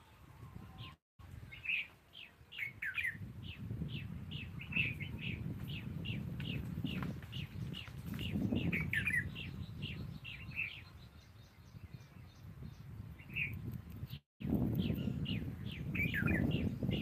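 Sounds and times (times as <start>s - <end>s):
small birds chirping: 0.7s - 17.0s.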